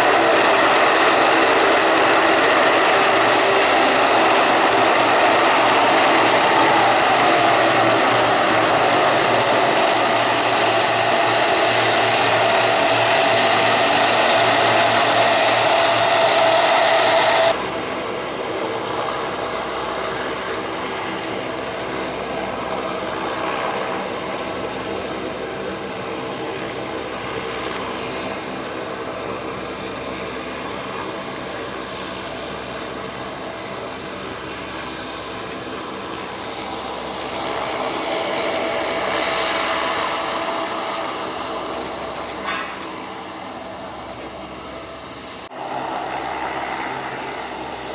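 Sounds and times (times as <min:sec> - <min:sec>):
turboprop engines whining: 0:00.0 - 0:47.9.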